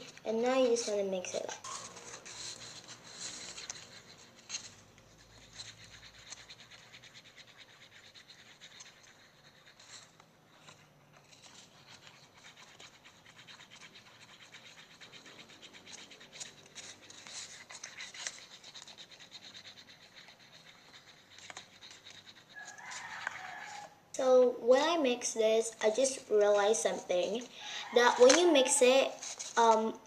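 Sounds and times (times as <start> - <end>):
utensil scraping in container: 0.0 - 23.9, 25.7 - 30.0.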